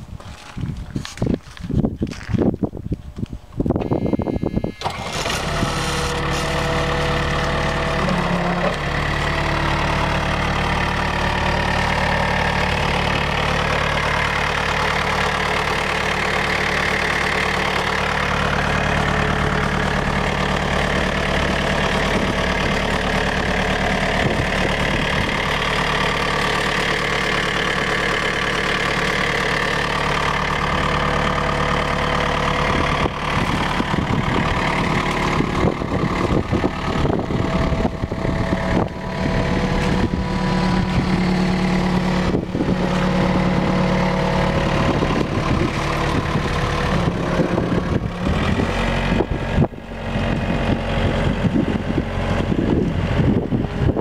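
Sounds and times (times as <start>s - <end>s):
skid steer engine starting and idling: 0.0s - 54.0s.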